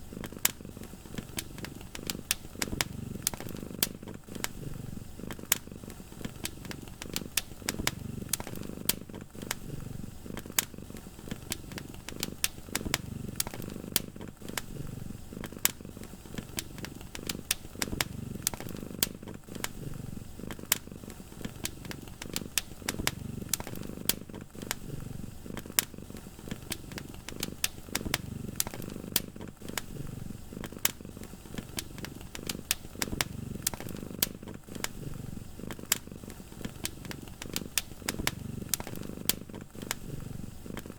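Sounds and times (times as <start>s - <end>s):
cat purring: 0.0s - 40.9s
wood fire crackling and popping: 0.1s - 40.9s.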